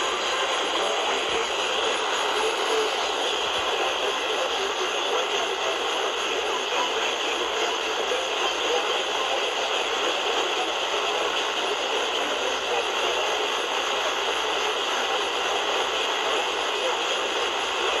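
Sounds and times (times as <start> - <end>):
faint voice on radio: 0.0 - 18.0
radio static hiss: 0.0 - 18.0.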